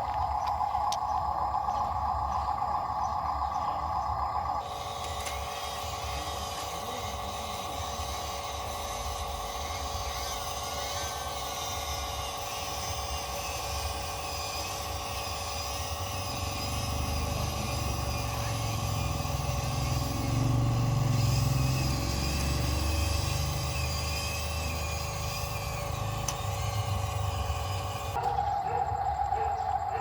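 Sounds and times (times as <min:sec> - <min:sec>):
diesel engine rumbling: 0:00.0 - 0:30.0
steady high whine: 0:00.0 - 0:30.0.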